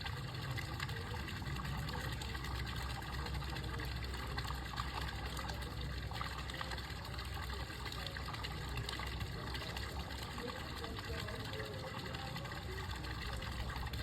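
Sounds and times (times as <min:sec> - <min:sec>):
water running and trickling: 0:00.0 - 0:14.0.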